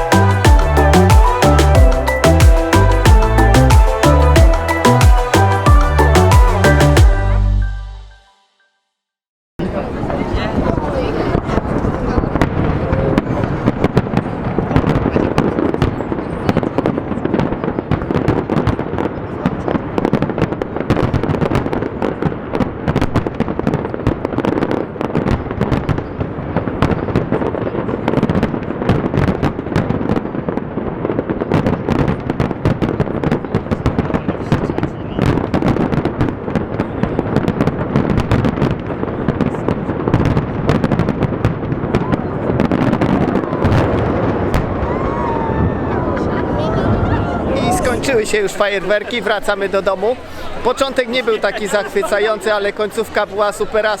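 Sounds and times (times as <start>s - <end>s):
fireworks bangs and crackling: 0.0s - 7.2s, 9.7s - 54.0s.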